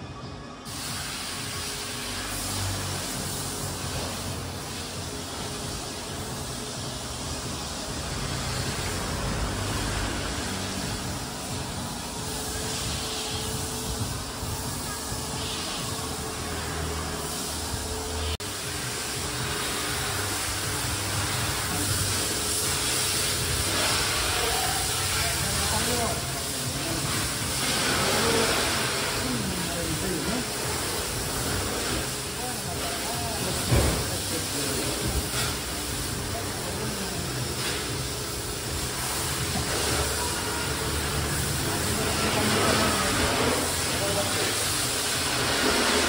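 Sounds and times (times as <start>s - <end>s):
pressure washer spray hiss: 0.6s - 46.0s.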